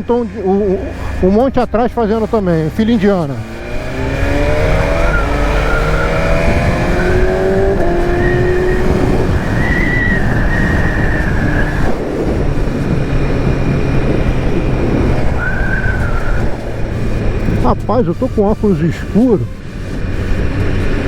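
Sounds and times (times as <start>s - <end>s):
motorcycle engine revving: 0.0s - 21.0s
wind rush: 0.0s - 21.0s.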